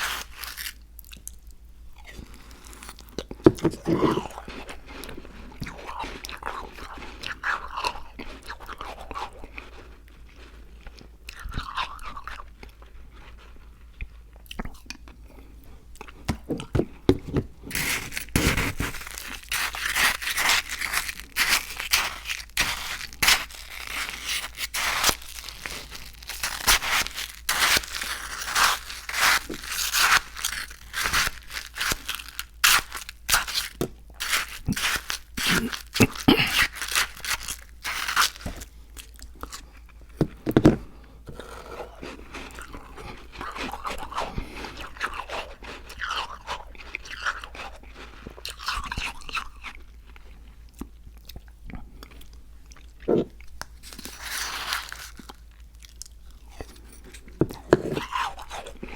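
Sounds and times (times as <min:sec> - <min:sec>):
chewing crunchy food: 0:00.0 - 0:58.9.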